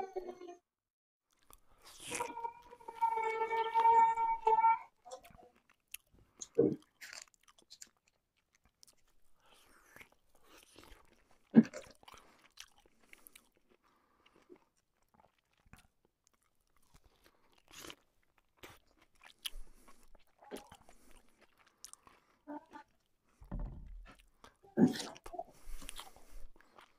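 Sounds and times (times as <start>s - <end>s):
chewing with crunches: 1.3s - 2.3s, 5.0s - 26.9s.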